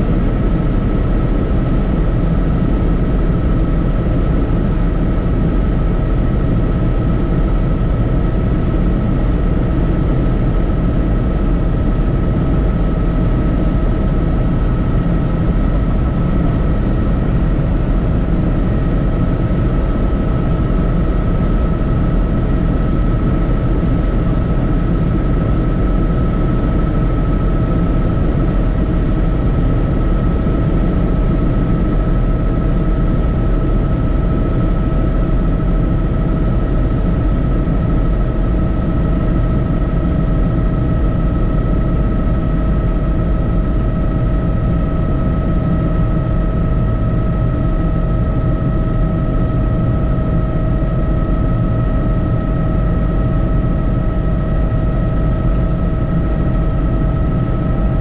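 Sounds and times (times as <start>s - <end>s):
helicopter rotor and engine rumble: 0.0s - 58.0s.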